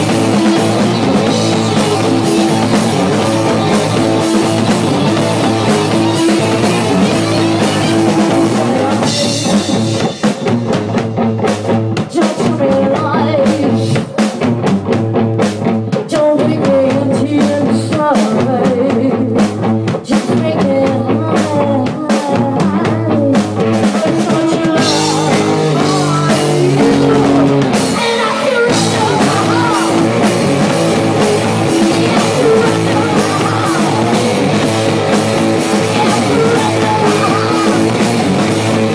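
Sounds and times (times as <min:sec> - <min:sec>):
person singing: 0:00.0 - 0:10.2, 0:12.1 - 0:14.4, 0:16.0 - 0:38.9
drum kit: 0:00.0 - 0:38.9
electric guitar: 0:00.0 - 0:38.9
punk rock band playing: 0:00.0 - 0:38.9.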